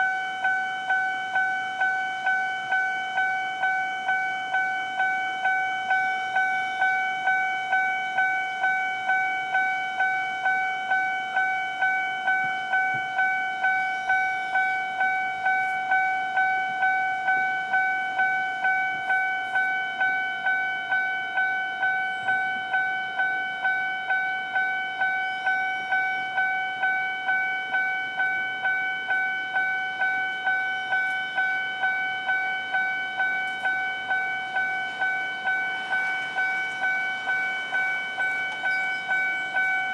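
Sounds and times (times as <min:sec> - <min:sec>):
level crossing bell clanging: 0:04.6 - 0:39.9.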